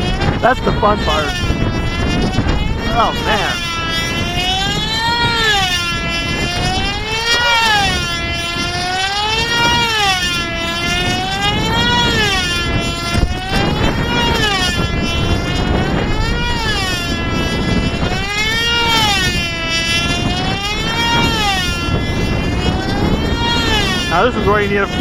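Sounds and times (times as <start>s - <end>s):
model airplane engine buzzing: 0.0s - 25.0s.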